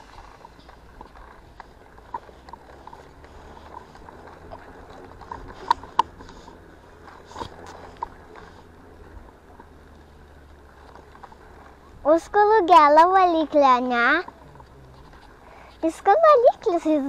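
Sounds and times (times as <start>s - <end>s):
bicycle clicks and rattles: 0.0s - 15.9s
bicycle tyres rumbling on asphalt: 0.0s - 17.0s.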